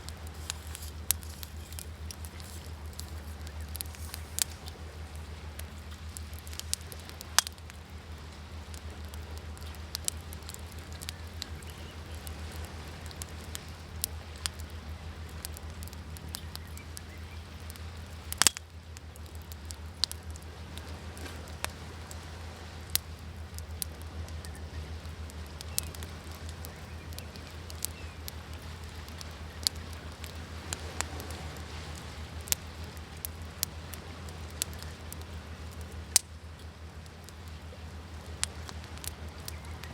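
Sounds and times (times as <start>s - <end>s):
low background wash: 0.0s - 39.9s
wood fire crackling and popping: 0.0s - 39.9s.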